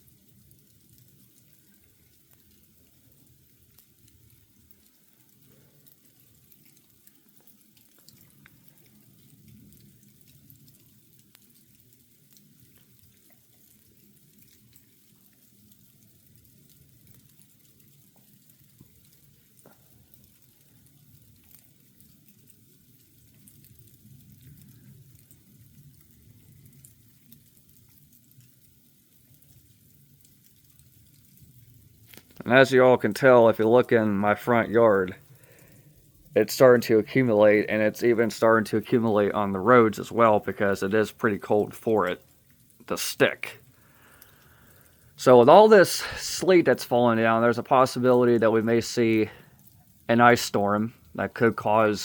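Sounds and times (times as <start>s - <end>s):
sleet pellets ticking: 0.0s - 52.0s.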